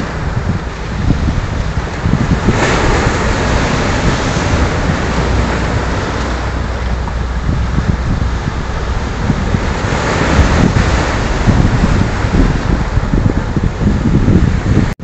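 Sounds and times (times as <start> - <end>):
surf breaking over boulders: 0.0 - 15.0
wind buffeting microphone: 0.0 - 15.0.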